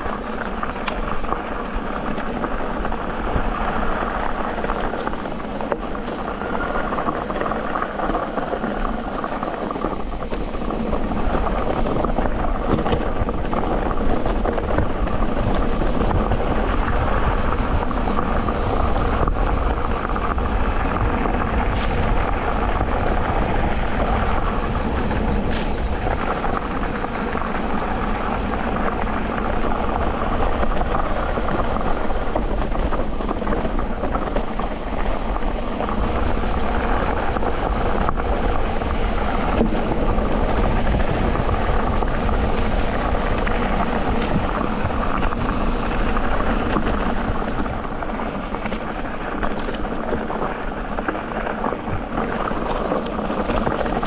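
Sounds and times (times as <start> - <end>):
bike tyres rolling on dirt: 0.0 - 54.0.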